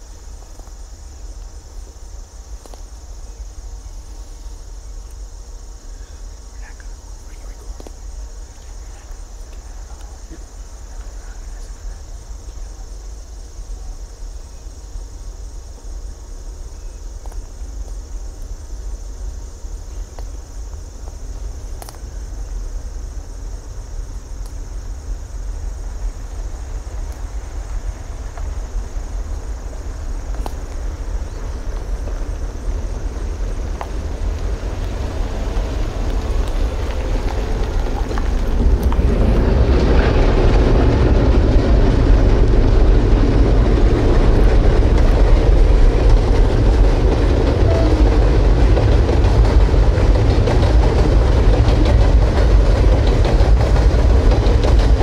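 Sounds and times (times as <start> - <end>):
train rumble approaching: 0.0 - 55.0.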